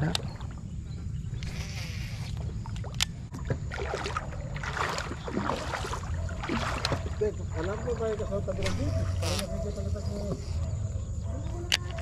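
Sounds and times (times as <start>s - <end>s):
water sloshing and splashing: 0.0s - 9.6s.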